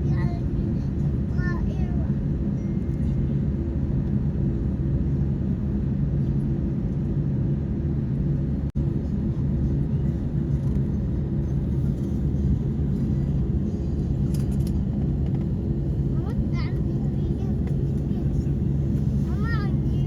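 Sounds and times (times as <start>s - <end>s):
airliner engines rumbling in cabin: 0.0s - 20.0s.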